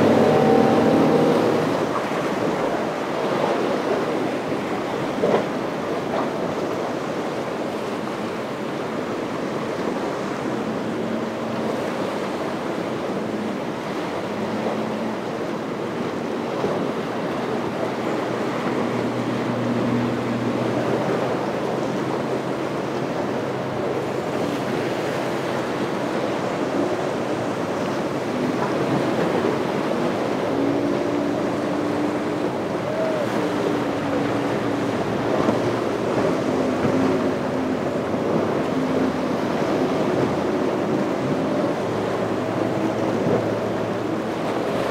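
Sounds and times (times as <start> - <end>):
faint outboard motors droning: 0.0 - 44.9
ocean waves washing: 0.0 - 44.9.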